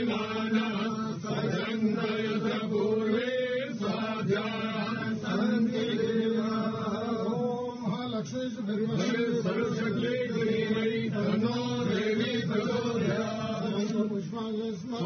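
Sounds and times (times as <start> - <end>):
voices chanting prayers: 0.0 - 15.0.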